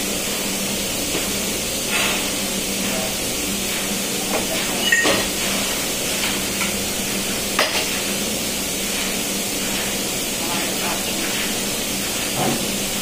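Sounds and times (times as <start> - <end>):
low machinery hum: 0.0 - 13.0
ventilation hiss: 0.0 - 13.0.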